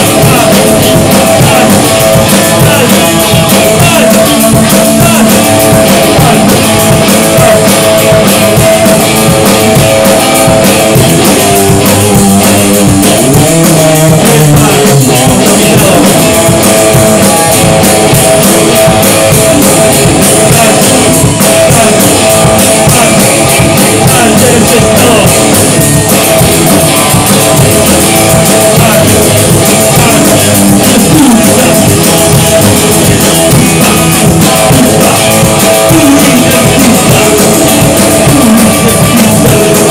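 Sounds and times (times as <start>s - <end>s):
drum kit: 0.0s - 39.9s
electric guitars: 0.0s - 39.9s
rock band playing: 0.0s - 39.9s.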